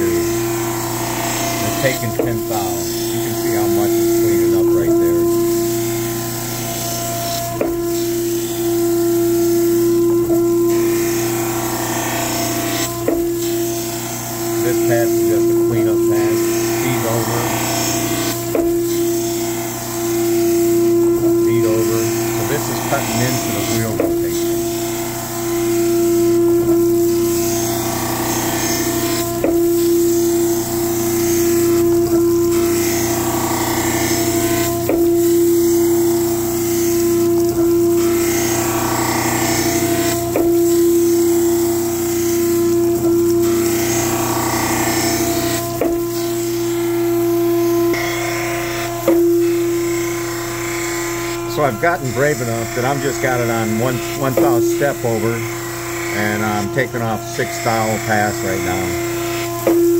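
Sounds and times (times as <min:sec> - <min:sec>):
coolant hiss: 0:00.0 - 0:59.9
surface grinder grinding: 0:00.0 - 0:59.9.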